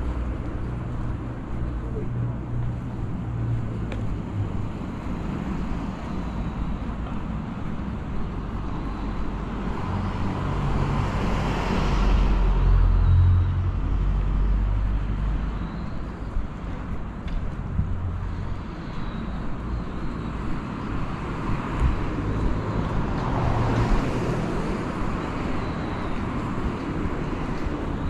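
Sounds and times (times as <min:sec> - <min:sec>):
city street traffic: 0:00.0 - 0:28.0
vehicle with deep engine hum passing: 0:00.0 - 0:28.0.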